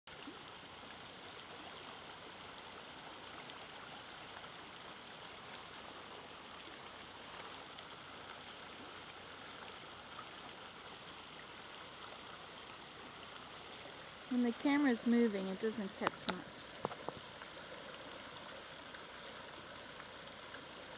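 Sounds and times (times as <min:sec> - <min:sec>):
stream flowing: 0:00.1 - 0:20.9.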